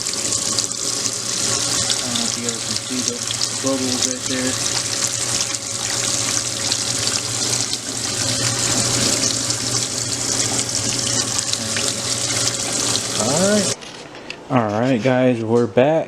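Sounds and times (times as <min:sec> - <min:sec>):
water running into washing machine: 0:00.0 - 0:13.8.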